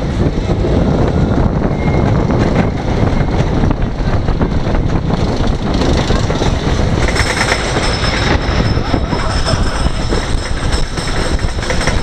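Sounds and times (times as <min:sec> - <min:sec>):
roller coaster wheels rumbling: 0:00.0 - 0:12.0
wind on microphone: 0:00.0 - 0:12.0.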